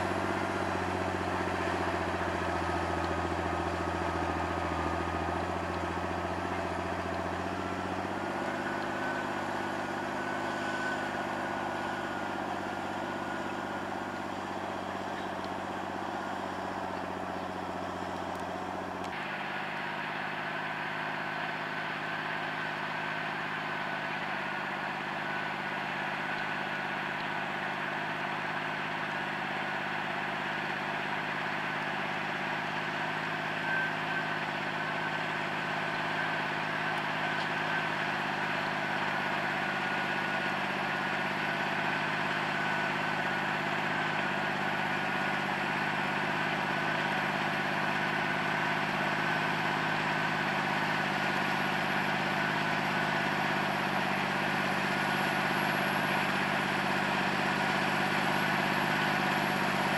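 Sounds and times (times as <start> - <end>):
steady mechanical whine: 0.0 - 59.9
tractor diesel engine running: 0.0 - 59.9.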